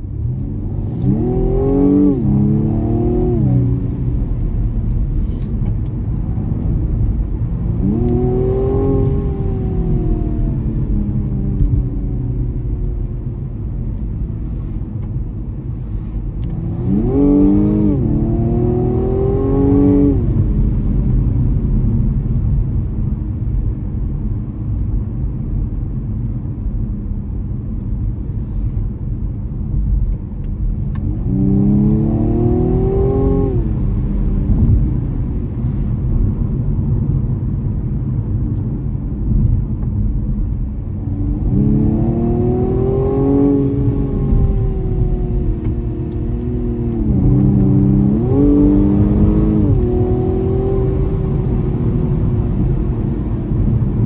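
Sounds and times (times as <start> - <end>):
car engine accelerating: 0.0 - 26.4, 27.8 - 54.0
road rumble: 0.0 - 54.0.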